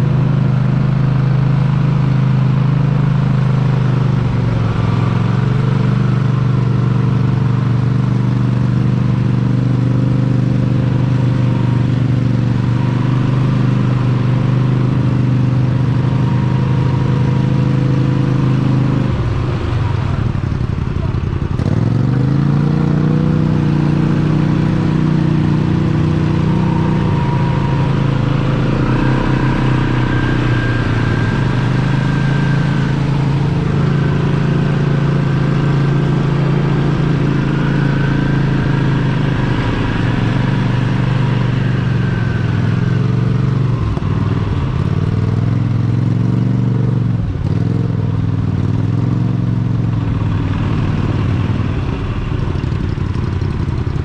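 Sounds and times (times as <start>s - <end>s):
truck engine revving high: 0.0s - 54.0s.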